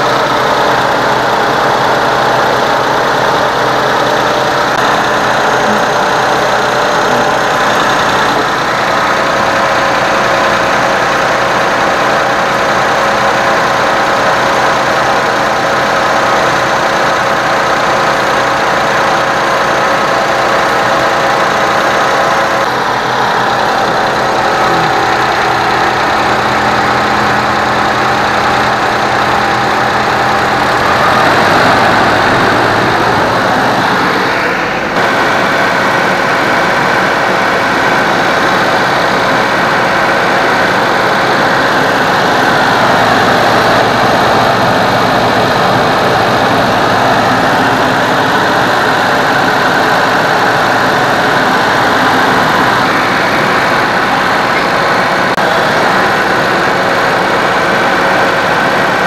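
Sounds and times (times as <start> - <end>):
small car engine running: 0.0 - 59.0.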